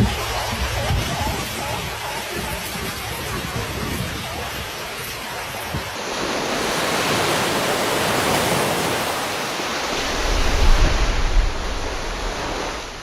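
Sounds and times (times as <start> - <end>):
rushing sea water: 0.0 - 13.0
wind gusts on microphone: 0.0 - 13.0.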